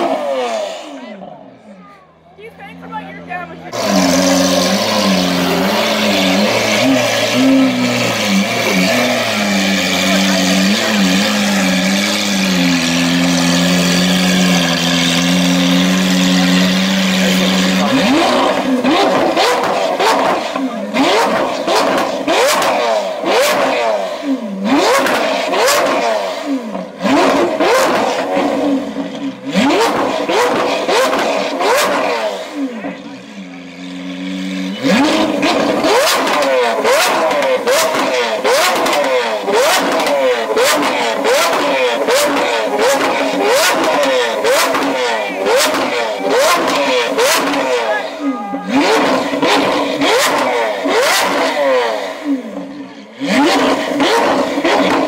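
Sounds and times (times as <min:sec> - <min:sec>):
engine revving hard: 0:00.0 - 0:01.5, 0:02.6 - 0:55.0
sports car engine idling: 0:00.0 - 0:55.0.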